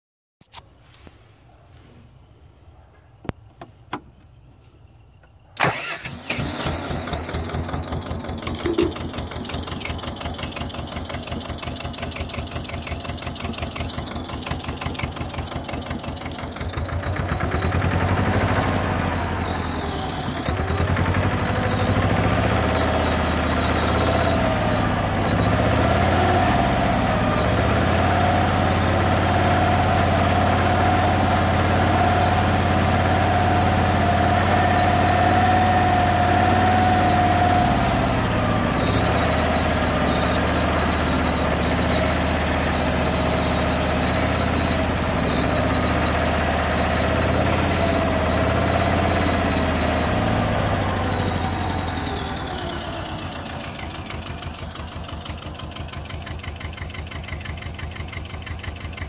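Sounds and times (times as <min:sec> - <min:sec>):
tractor engine idling: 0:05.2 - 0:59.0.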